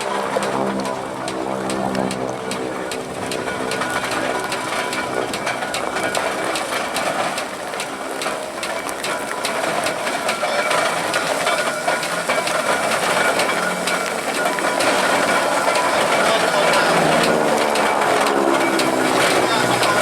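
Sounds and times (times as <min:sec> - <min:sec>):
engine hum with clattering knocks: 0:00.0 - 0:20.0.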